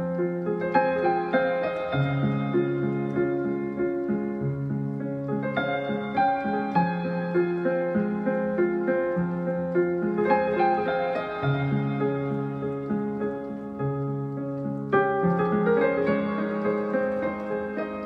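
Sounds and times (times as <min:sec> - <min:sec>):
slow solo piano piece: 0:00.0 - 0:18.0.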